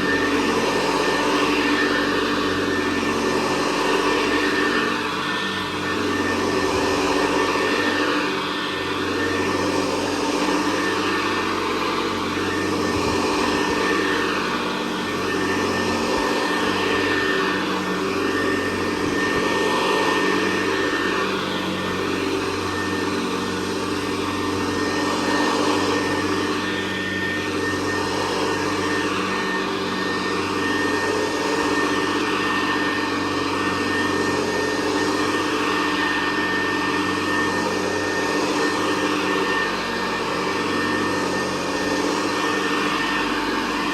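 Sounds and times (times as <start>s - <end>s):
vacuum cleaner whine: 0.0s - 43.9s.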